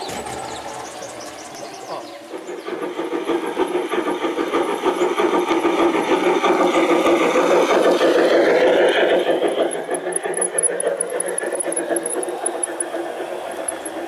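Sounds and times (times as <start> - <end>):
model train motor whirring: 0.0 - 14.0
wheels clicking over rails: 0.0 - 14.0.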